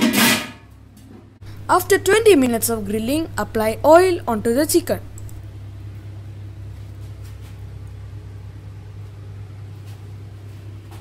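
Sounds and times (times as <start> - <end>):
low machine hum: 0.8 - 11.0.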